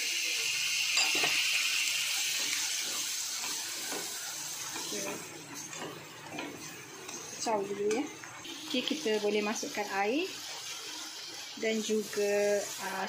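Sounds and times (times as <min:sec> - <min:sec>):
chicken sizzling in hot fat: 0:00.0 - 0:13.0.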